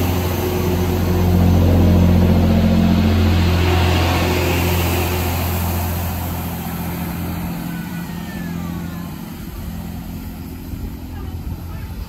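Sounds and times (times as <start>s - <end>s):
diesel train engine drone: 0.0s - 12.0s.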